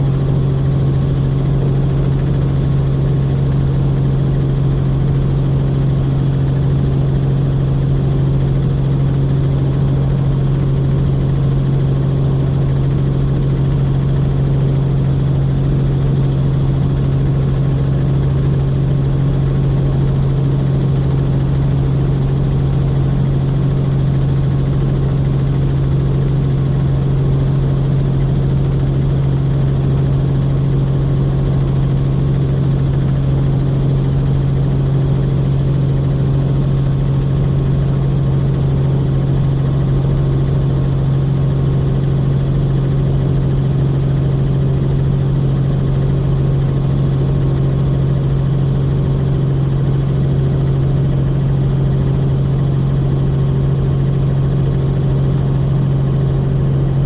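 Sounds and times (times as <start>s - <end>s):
helicopter droning: 0.0s - 57.0s.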